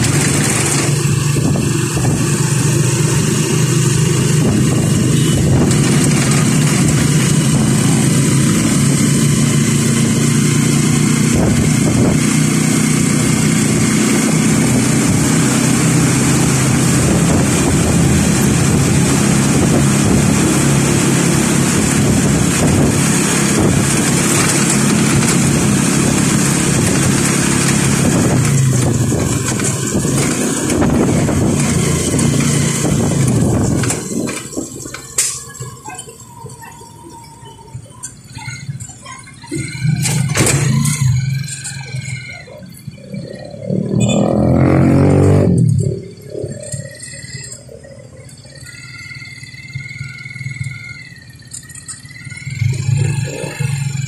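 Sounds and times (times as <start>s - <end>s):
vehicle engine hum: 0.0s - 54.0s
wind and tyre noise: 0.0s - 54.0s.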